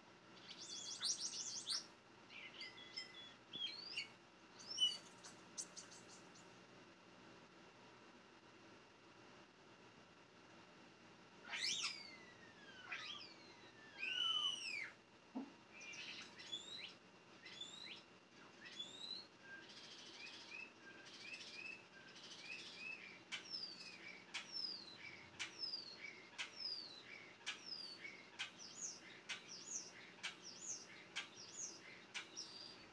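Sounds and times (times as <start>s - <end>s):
birds chirping: 0.4s - 6.6s, 11.5s - 15.0s, 15.8s - 32.9s.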